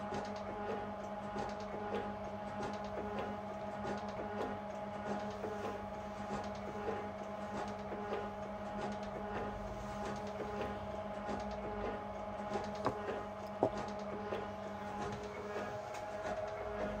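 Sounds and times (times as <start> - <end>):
motor and gear hum: 0.0 - 17.0.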